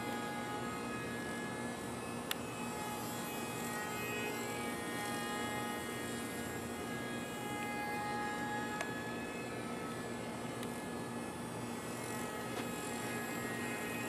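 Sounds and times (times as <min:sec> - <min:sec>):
small electric motor buzzing whine: 0:00.0 - 0:14.0.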